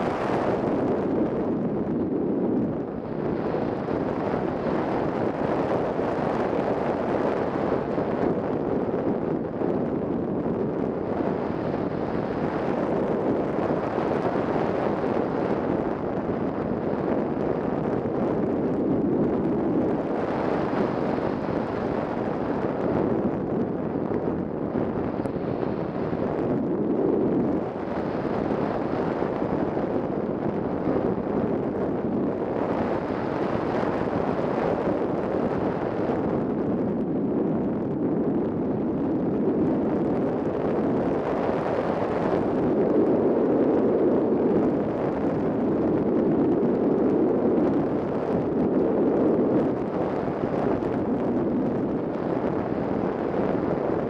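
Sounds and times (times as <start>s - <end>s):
airflow rushing over camera: 0.0s - 54.0s.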